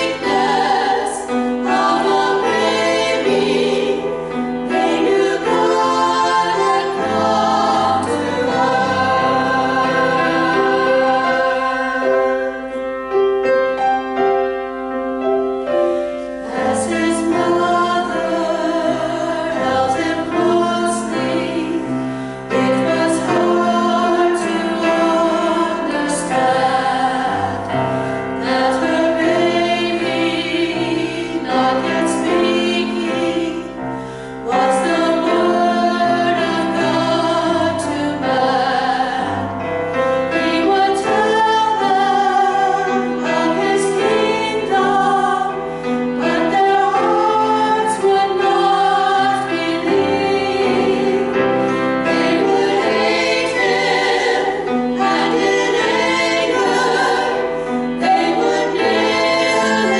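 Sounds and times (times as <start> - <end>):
female vocal trio singing: 0.0 - 12.6, 16.4 - 39.6, 40.2 - 59.9.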